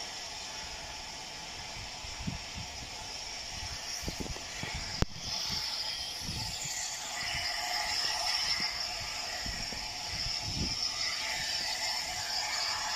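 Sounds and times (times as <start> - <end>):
distant steam locomotive hissing: 0.0 - 12.9.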